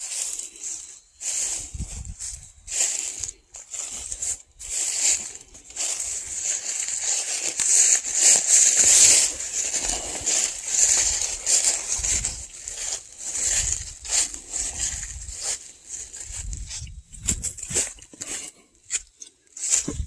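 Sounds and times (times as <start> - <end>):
footsteps crunching dry leaves: 0.0 - 20.0.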